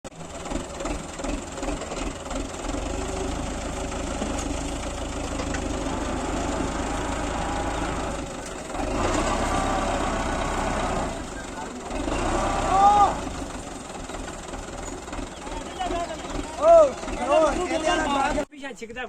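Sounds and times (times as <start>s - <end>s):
heavy engine idling: 0.0s - 18.5s.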